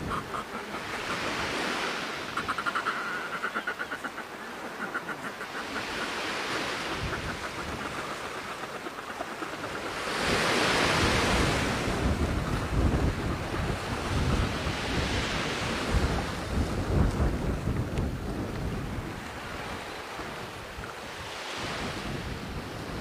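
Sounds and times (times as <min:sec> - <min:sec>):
sea surf and wind: 0:00.0 - 0:23.0.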